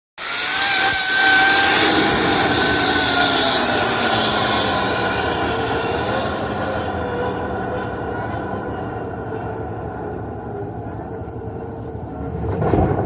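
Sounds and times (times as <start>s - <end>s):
vent cleaning machine running: 0.5s - 12.4s.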